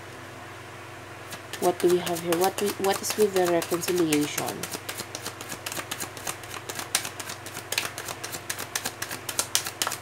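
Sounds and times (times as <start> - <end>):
cards being shuffled: 1.3 - 10.0.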